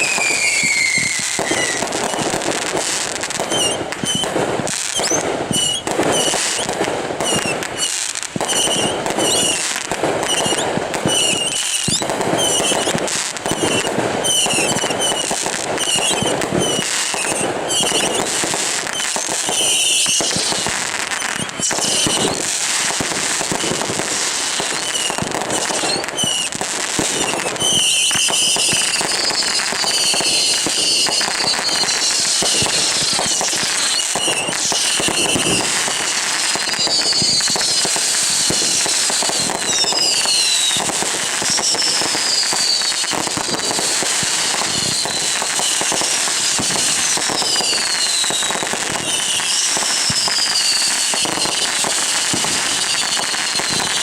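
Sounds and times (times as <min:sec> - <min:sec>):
falling firework whistles: 0:00.0 - 0:54.0
fireworks crackling: 0:00.0 - 0:54.0.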